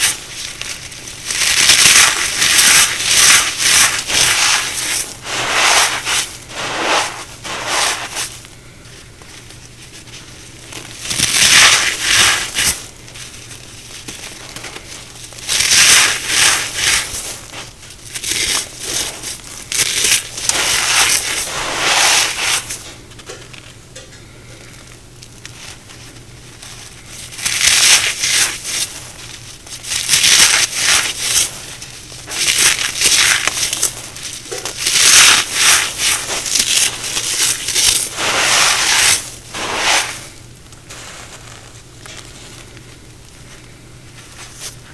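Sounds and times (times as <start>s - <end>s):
crunching of dry chunks: 0.0s - 23.7s, 24.7s - 44.8s.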